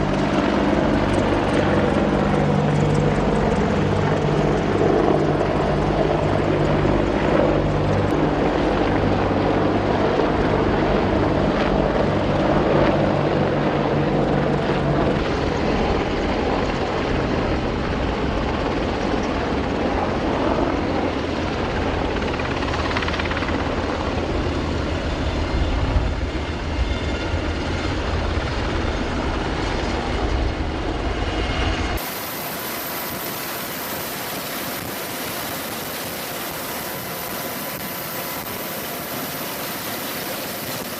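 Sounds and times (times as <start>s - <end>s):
helicopter rotor and turbine noise: 0.0s - 40.9s.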